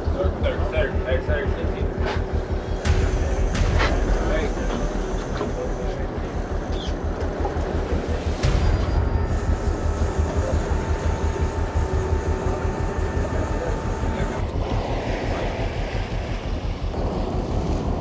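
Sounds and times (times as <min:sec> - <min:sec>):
boat engines rumbling: 0:00.0 - 0:18.0
sea wash: 0:02.4 - 0:18.0.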